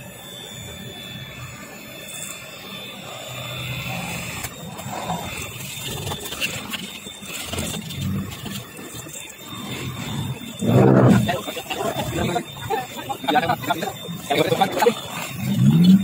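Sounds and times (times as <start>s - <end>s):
electric mixer motor hum: 1.4s - 16.0s.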